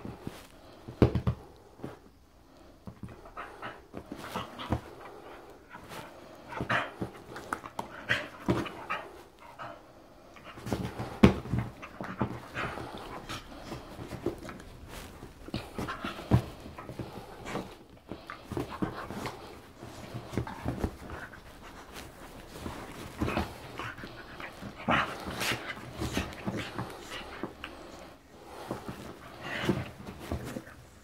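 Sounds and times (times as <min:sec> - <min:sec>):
dog panting: 0:02.9 - 0:31.0.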